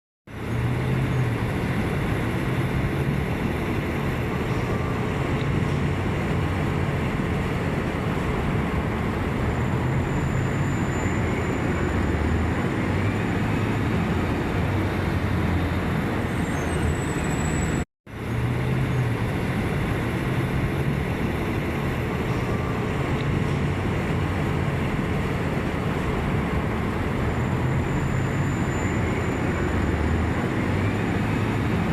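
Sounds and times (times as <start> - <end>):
road traffic rumble: 0.3 - 31.9.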